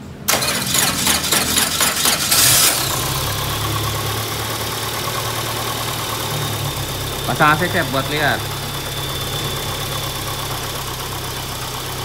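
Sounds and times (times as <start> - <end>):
car engine cranking and idling: 0.0 - 12.0.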